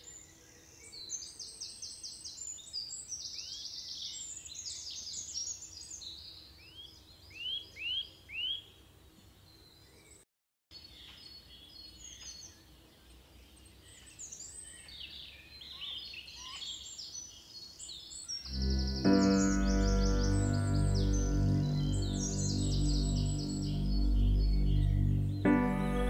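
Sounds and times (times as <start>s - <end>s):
birds singing: 0.0s - 8.8s, 10.8s - 26.0s.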